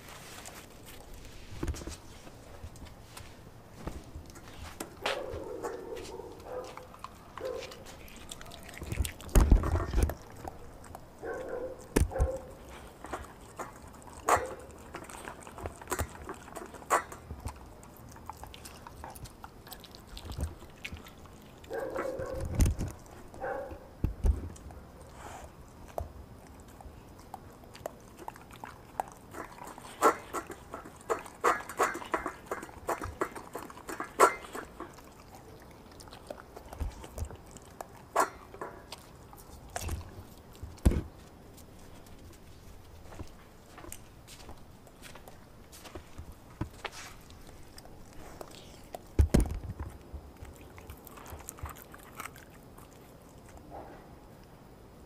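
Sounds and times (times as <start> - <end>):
dog crunching meat and bone: 3.8 - 54.5.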